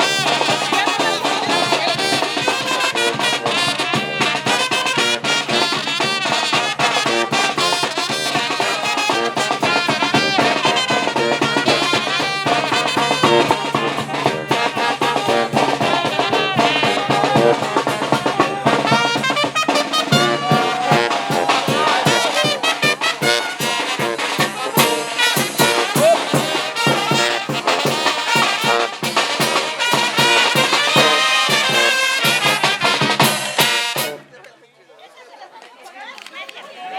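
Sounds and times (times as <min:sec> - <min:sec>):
steady drum beat: 0:00.0 - 0:34.2
trombones: 0:00.0 - 0:34.4
trumpets: 0:00.0 - 0:34.4.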